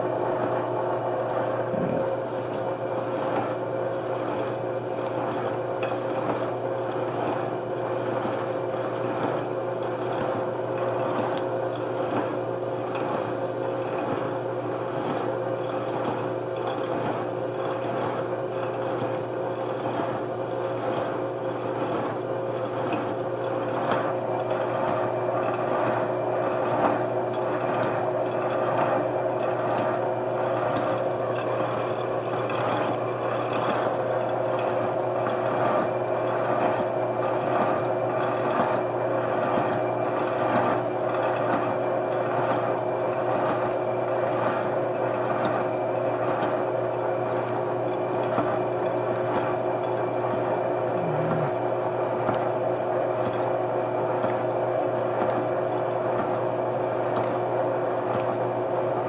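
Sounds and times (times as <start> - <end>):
milling machine humming: 0.0 - 59.0.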